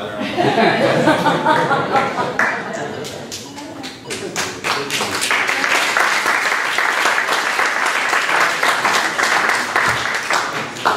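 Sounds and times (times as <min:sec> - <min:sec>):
audience applauding: 0:01.5 - 0:10.9.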